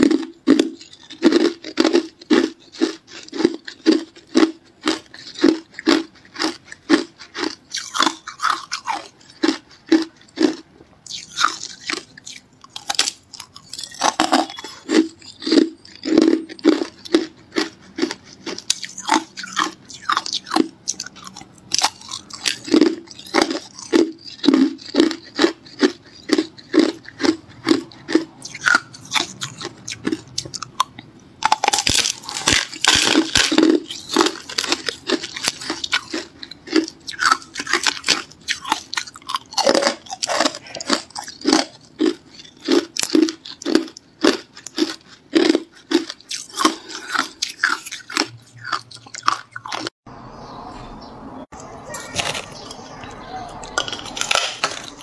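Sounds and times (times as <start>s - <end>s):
ice being chewed crunching: 0.0s - 50.0s, 52.0s - 55.0s.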